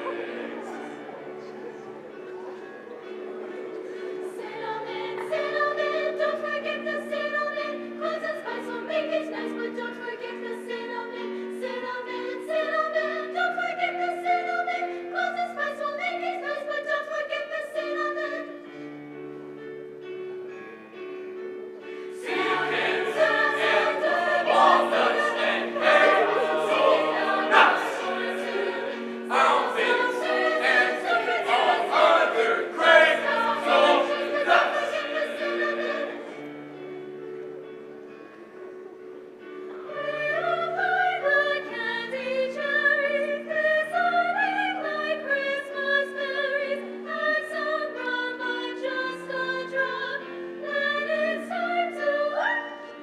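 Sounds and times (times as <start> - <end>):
choir singing: 0.0 - 18.4, 21.9 - 36.8, 39.7 - 53.0.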